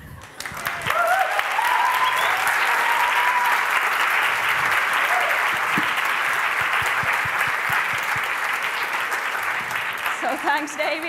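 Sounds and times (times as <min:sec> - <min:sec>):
audience applauding: 0:00.0 - 0:11.0
audience cheering: 0:00.3 - 0:10.6.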